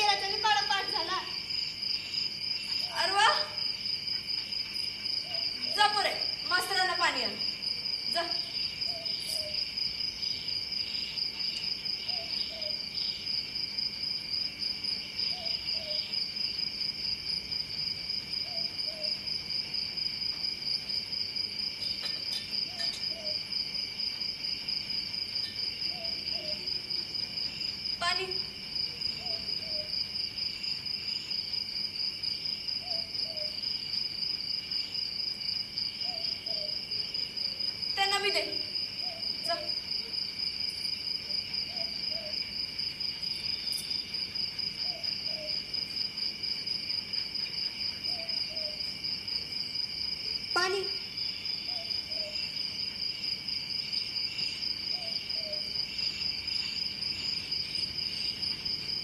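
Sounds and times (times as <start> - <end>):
crickets chirring: 0.0 - 59.0.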